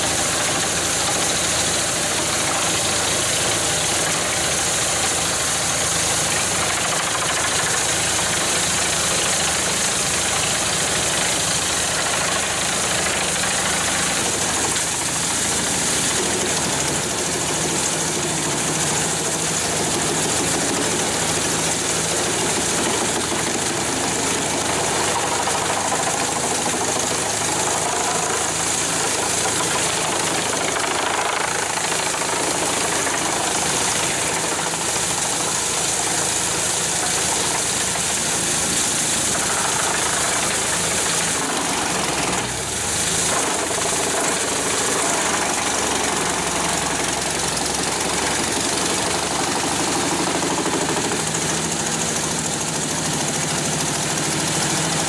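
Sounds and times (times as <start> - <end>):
heavy machine engine running: 0.0 - 55.0.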